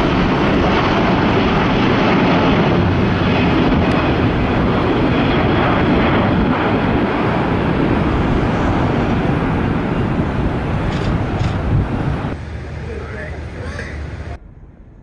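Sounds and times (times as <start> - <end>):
jet engines roaring: 0.0 - 14.8.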